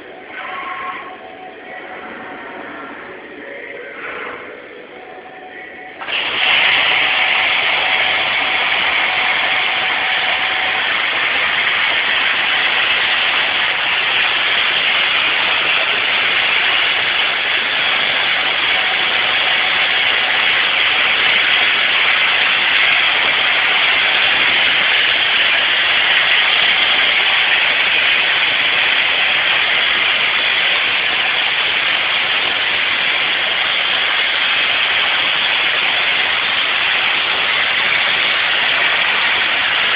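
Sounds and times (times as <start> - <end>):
welding arc hissing: 6.0 - 39.9.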